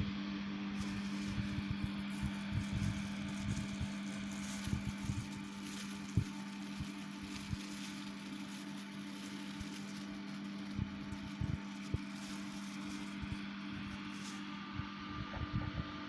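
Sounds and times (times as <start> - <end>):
extractor fan running: 0.0 - 16.0.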